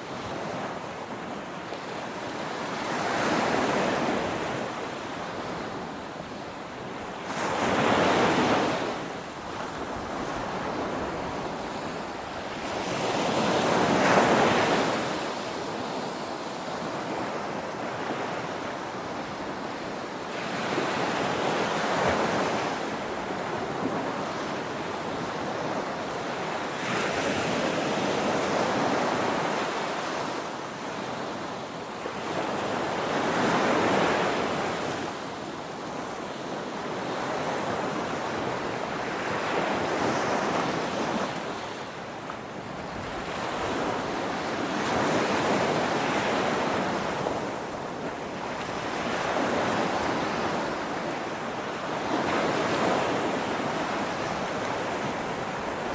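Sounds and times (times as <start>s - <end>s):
waves breaking on sandy shore: 0.0s - 55.9s.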